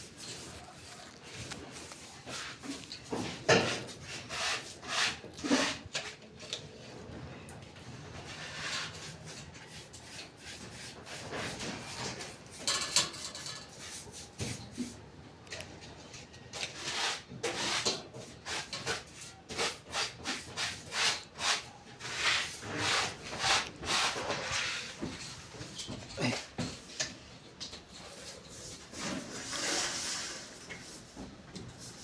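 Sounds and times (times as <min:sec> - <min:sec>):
hand tool scraping strokes: 0:00.0 - 0:06.5, 0:08.2 - 0:15.0, 0:16.6 - 0:26.5, 0:28.0 - 0:31.2.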